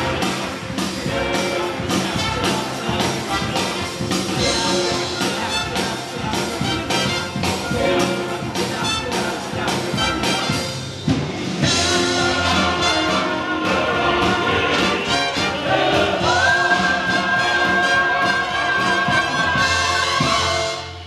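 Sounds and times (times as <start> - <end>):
orchestral accompaniment: 0.0 - 21.0.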